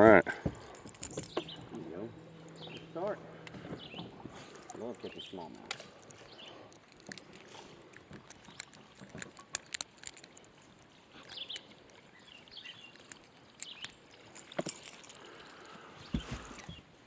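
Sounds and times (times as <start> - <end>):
fishing gear clicks and knocks: 0.0 - 16.9.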